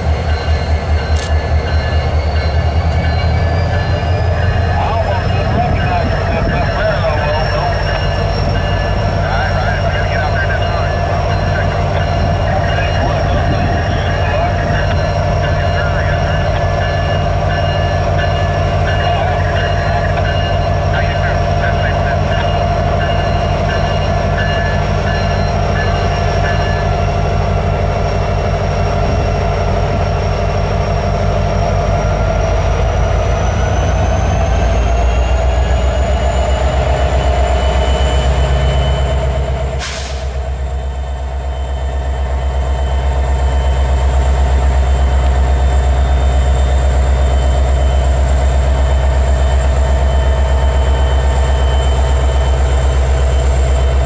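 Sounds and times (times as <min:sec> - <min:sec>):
diesel locomotive running with whine: 0:00.0 - 0:54.0.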